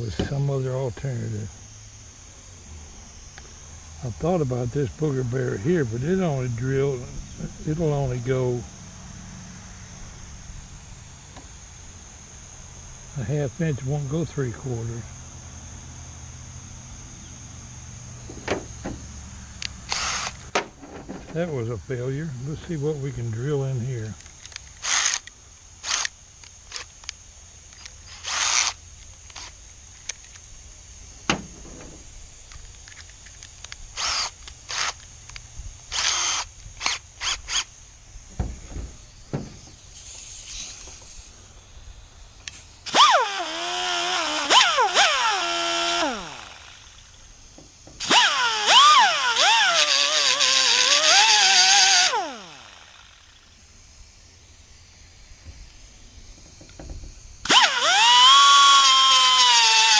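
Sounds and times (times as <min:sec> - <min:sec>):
power tool whining: 0:00.0 - 0:21.6, 0:22.4 - 0:41.5, 0:42.4 - 0:53.9, 0:55.7 - 0:59.9.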